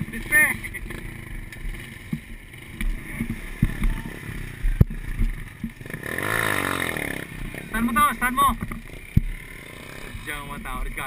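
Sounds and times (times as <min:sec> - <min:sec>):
small motorcycle engines running: 0:00.0 - 0:11.0.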